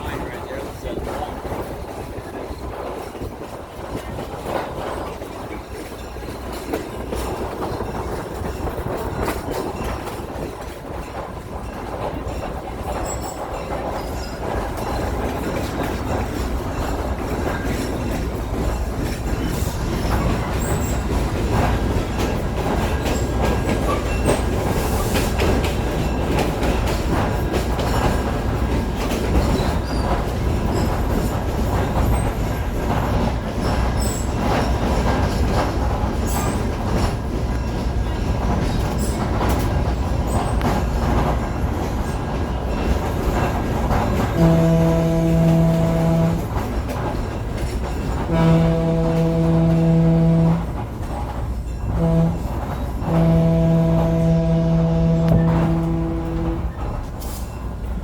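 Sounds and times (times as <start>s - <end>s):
train cars rumbling on track: 0.0s - 58.0s
wheels clicking over rail joints: 0.0s - 58.0s.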